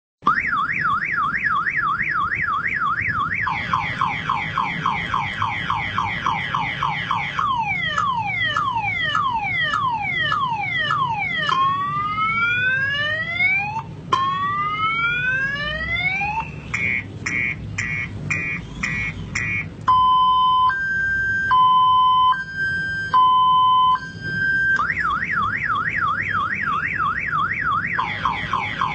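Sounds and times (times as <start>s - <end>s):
ambulance siren: 0.2s - 28.9s.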